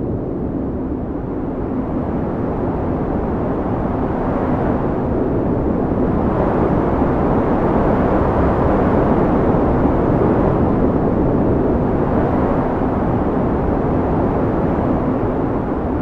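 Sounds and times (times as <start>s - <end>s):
strong wind roaring: 0.0s - 16.0s.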